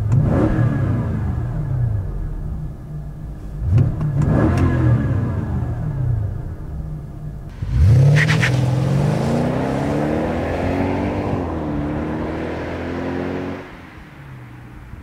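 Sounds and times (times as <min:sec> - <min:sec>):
car engine accelerating hard: 0:00.0 - 0:02.7, 0:03.4 - 0:15.0.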